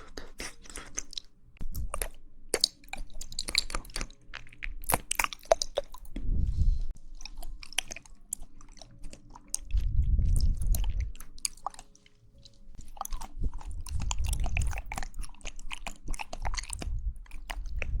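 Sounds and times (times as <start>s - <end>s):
person chewing jelly: 0.0s - 6.2s, 6.9s - 18.0s.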